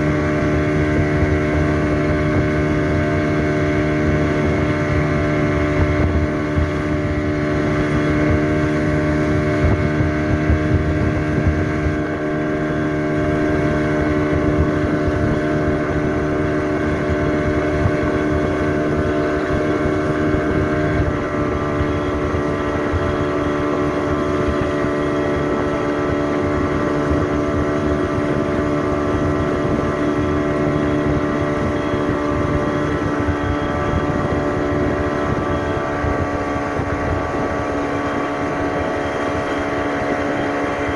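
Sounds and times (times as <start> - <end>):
speedboat engine running: 0.0 - 40.9
water wash: 0.0 - 40.9
wind: 0.0 - 40.9.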